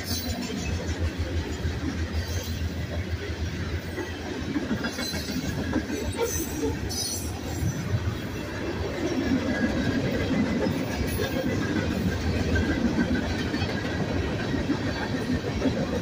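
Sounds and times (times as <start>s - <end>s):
wheels rumbling on rail: 0.0s - 16.0s.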